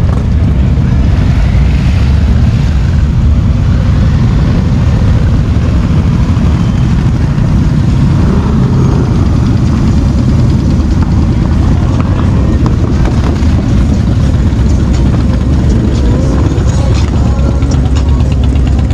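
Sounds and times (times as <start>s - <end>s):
motorcycle engines running: 0.0s - 18.9s.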